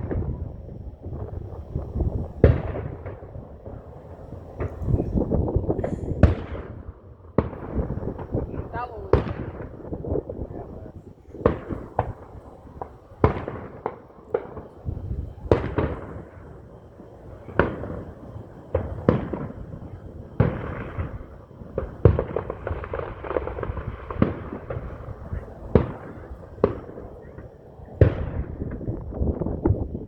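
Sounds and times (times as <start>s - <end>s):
fireworks bangs with rumble: 0.0s - 30.0s
fireworks crackling pops: 0.0s - 30.0s.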